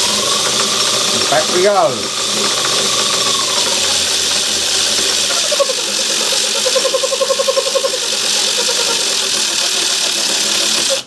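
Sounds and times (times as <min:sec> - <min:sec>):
fast even pulsing rattle: 0:00.0 - 0:11.0
lathe motor and gears whirring: 0:00.0 - 0:11.0.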